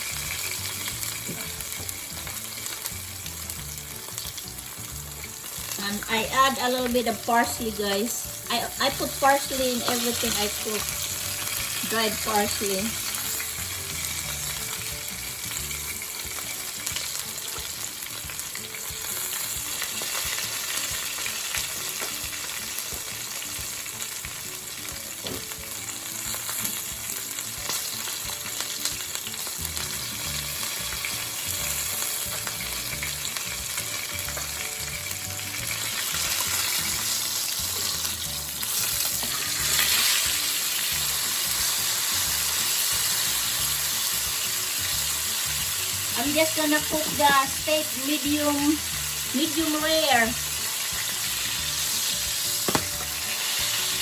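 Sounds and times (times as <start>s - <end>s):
steak and vegetables sizzling: 0.0s - 54.0s.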